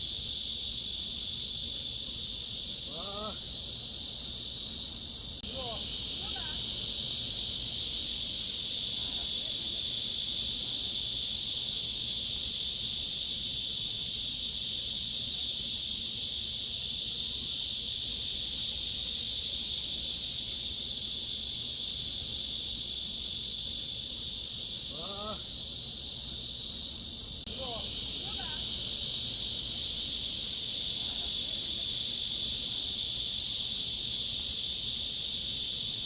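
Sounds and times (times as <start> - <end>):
cicadas buzzing: 0.0 - 36.0.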